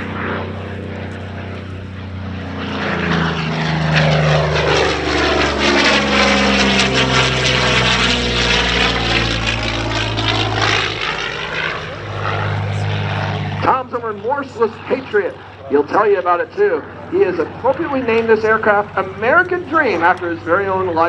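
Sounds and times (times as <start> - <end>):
propeller aircraft passing by: 0.0 - 21.0.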